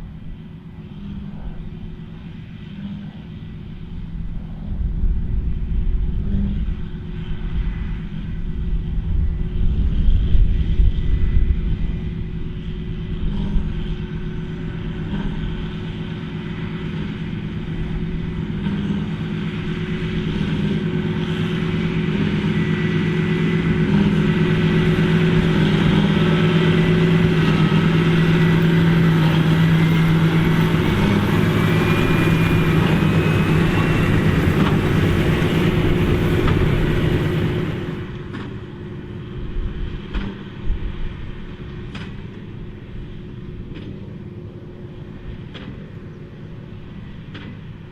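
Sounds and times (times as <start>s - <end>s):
faint rising whine: 0.0s - 47.9s
tractor diesel engine running: 0.0s - 47.9s.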